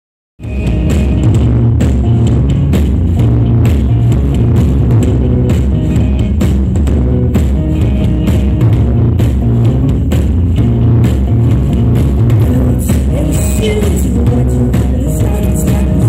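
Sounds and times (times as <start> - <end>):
live rock band playing: 0.4 - 16.0.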